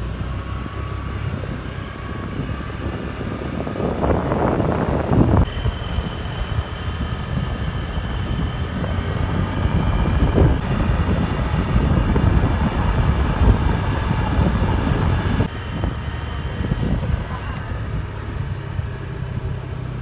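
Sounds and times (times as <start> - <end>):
vehicle road and engine rumble: 0.0 - 20.0
wind noise on microphone: 0.0 - 20.0.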